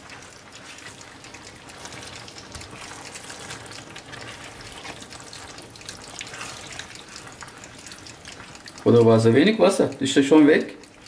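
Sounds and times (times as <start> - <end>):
spatula stirring wet food: 0.0 - 11.0.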